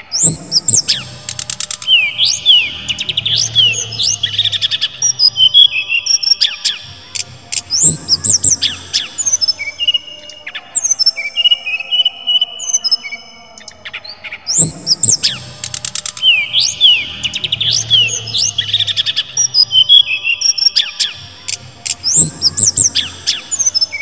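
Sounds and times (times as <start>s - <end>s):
bird singing whistles and trills: 0.0s - 24.0s.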